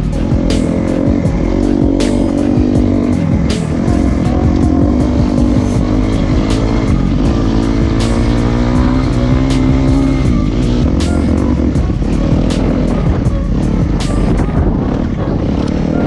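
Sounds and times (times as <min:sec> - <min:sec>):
background music with beat: 0:00.0 - 0:15.0
dirt bike engine revving: 0:00.0 - 0:15.1.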